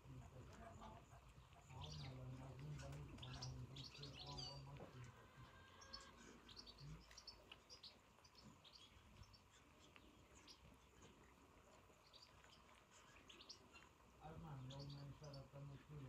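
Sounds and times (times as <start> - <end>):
small birds twittering: 0.0 - 16.0.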